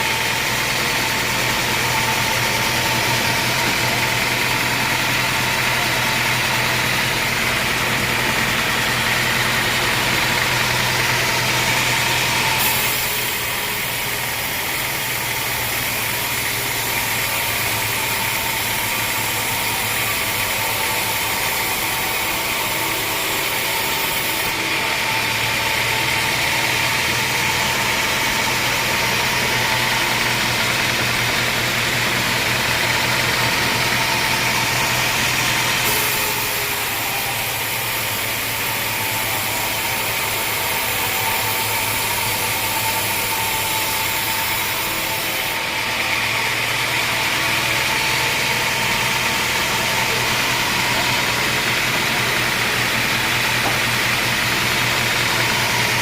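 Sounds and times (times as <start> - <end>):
band sawmill engine drone: 0.0 - 56.0
bright saw hiss: 1.2 - 26.8, 31.7 - 56.0.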